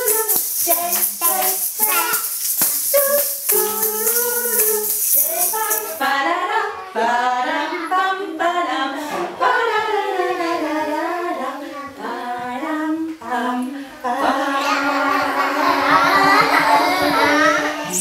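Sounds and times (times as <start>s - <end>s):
women singing: 0.0s - 18.0s
young children singing: 0.0s - 18.0s.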